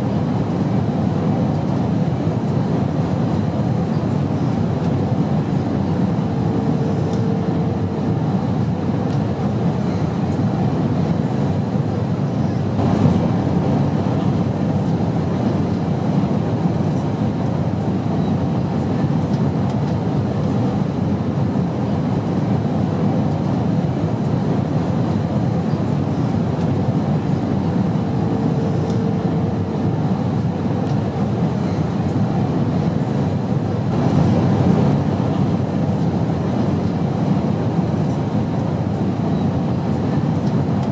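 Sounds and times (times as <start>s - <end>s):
airplane engine drone: 0.0s - 40.9s.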